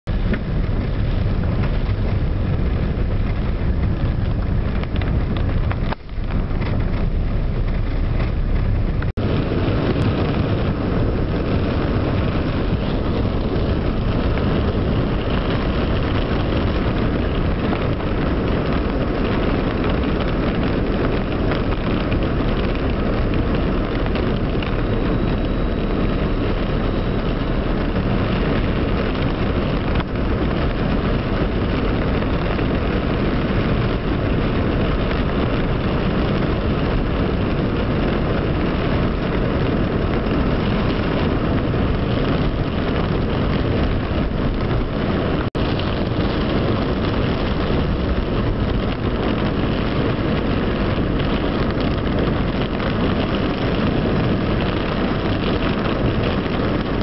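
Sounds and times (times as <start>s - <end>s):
heavy rain rushing: 0.0s - 57.0s
low rumble: 0.0s - 57.0s.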